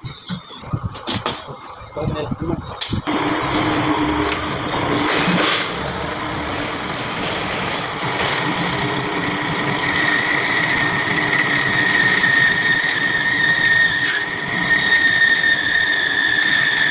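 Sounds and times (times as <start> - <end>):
steady high-pitched tone: 1.6 - 16.0
milling machine humming: 2.7 - 16.9.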